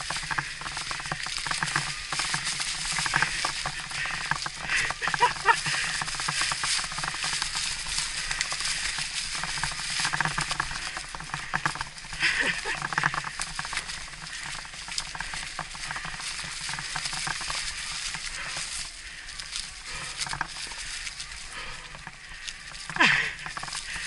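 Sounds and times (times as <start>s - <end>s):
bike clicks and rattles: 0.0s - 24.0s
tyres crunching over loose stones: 0.0s - 24.0s.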